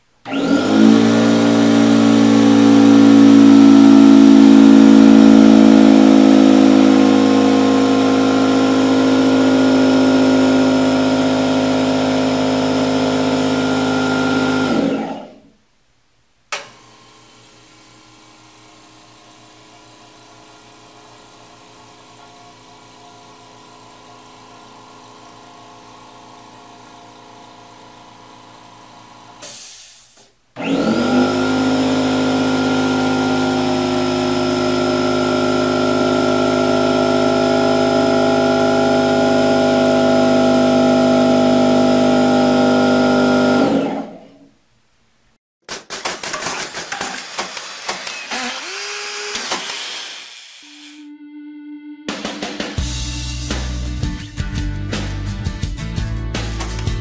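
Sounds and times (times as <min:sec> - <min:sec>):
loud air compressor drone: 0:00.2 - 0:15.4, 0:17.2 - 0:44.2, 0:46.9 - 0:51.0.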